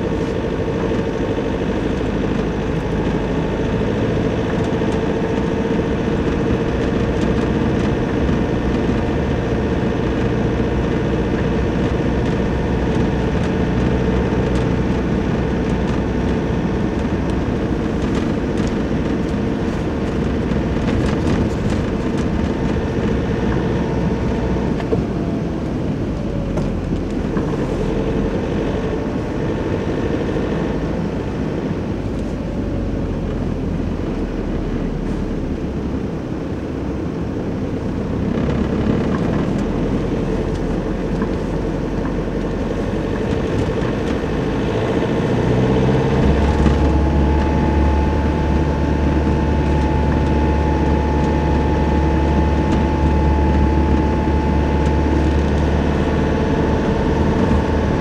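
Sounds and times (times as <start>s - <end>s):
pickup engine running: 0.0s - 58.0s
tyre noise on snowy road: 0.0s - 58.0s.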